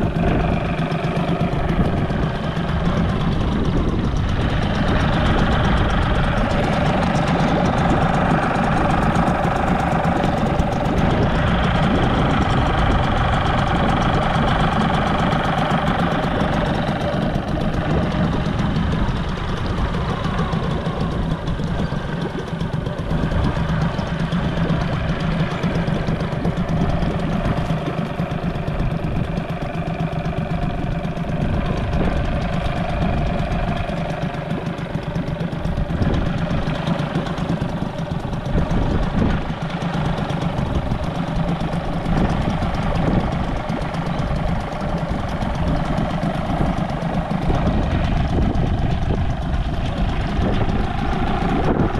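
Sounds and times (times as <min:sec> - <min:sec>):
outboard motor idling: 0:00.0 - 0:51.9.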